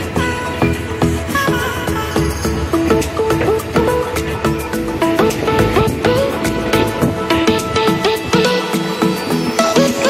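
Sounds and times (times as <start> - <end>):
melody of pitch-bending notes: 0.0 - 10.0
steady beat: 0.0 - 10.0.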